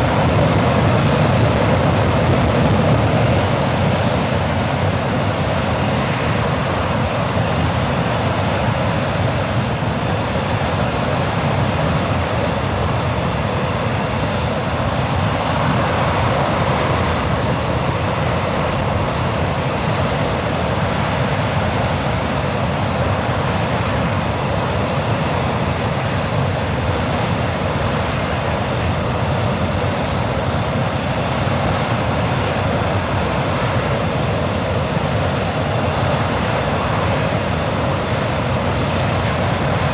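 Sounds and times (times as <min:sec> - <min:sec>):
jet engine running: 0:00.0 - 0:39.9.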